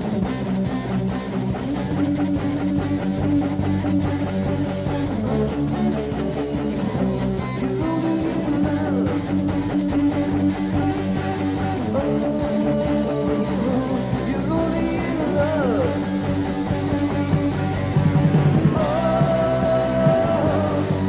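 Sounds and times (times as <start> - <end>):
heavy metal electric guitars: 0.0 - 21.0.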